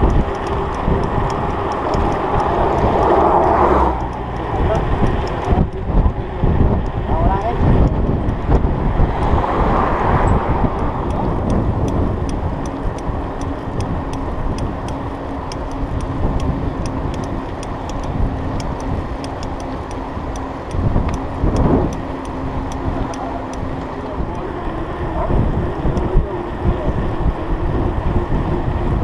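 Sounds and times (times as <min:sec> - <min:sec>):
light ticking from bike: 0:00.0 - 0:08.7, 0:10.6 - 0:24.8, 0:25.8 - 0:27.1
bike tyres rolling on asphalt: 0:00.0 - 0:29.0
wind rumbling on microphone: 0:00.0 - 0:29.0.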